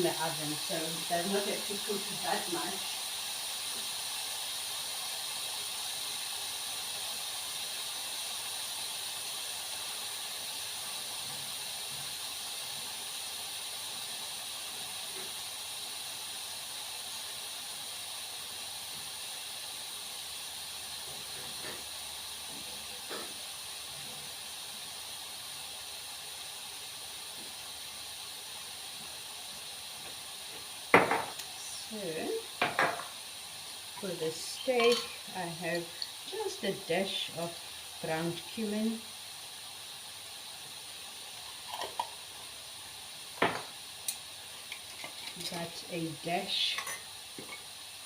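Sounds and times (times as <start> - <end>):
food sizzling in a pan: 0.0 - 48.0.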